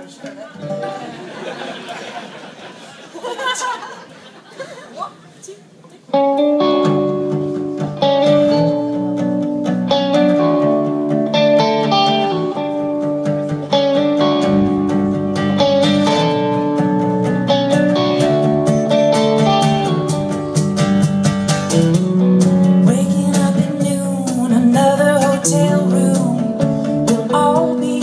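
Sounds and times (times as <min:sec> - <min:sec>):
acoustic guitars playing: 0:00.0 - 0:03.0, 0:06.0 - 0:28.0.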